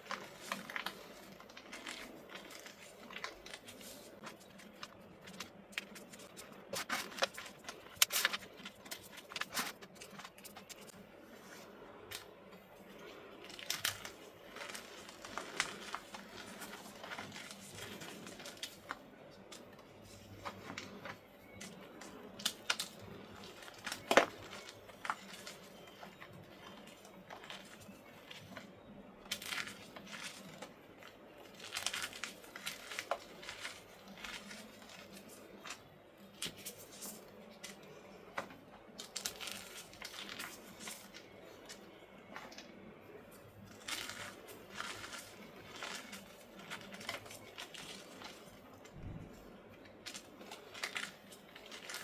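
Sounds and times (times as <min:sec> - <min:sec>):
chalk blocks crunching: 0:00.0 - 0:11.7, 0:12.9 - 0:42.8, 0:43.7 - 0:49.2.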